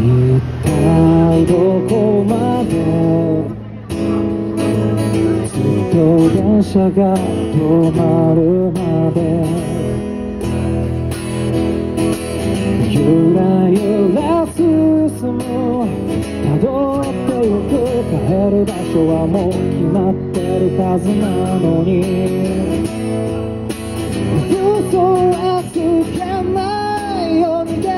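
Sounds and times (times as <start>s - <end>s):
man singing into a microphone: 0.0s - 4.2s, 4.9s - 10.1s, 12.7s - 23.3s, 24.2s - 27.9s
acoustic guitar strumming: 0.0s - 27.9s.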